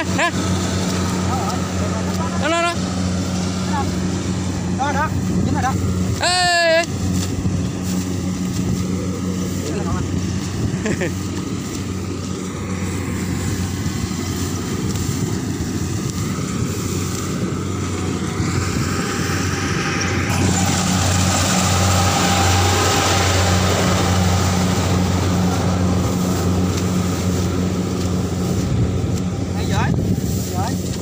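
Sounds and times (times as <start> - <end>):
combine harvester engine hum: 0.0 - 31.0
rushing mechanical noise: 0.0 - 31.0.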